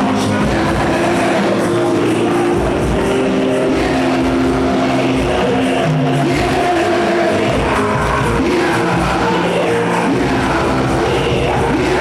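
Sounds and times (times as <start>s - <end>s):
band playing worship music: 0.0s - 12.0s
people singing: 0.0s - 12.0s.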